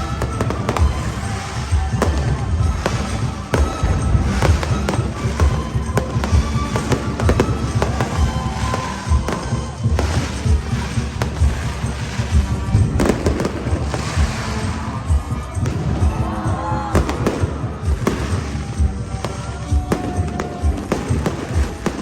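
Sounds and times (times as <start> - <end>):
fireworks bangs: 0.0 - 22.0
music playing: 0.0 - 22.0.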